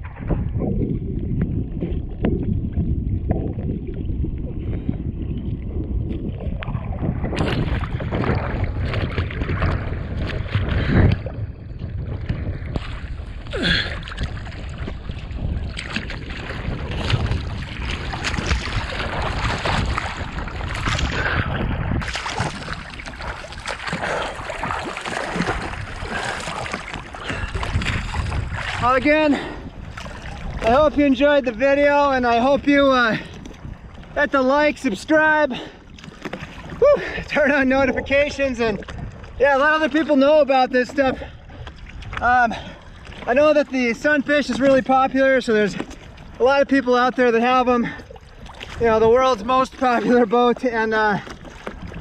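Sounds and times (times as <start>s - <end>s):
water sloshing and splashing: 0.0s - 52.0s
wind buffeting microphone: 0.0s - 52.0s.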